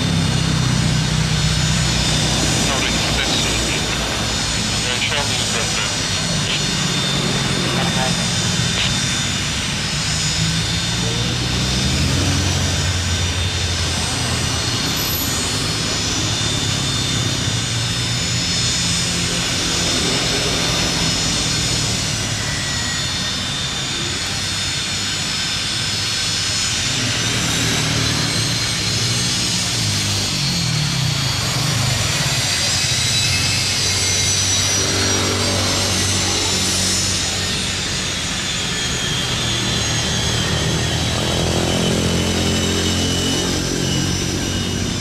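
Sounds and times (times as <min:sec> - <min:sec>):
high whining tones: 0:00.0 - 0:45.0
jet engines running: 0:00.0 - 0:45.0.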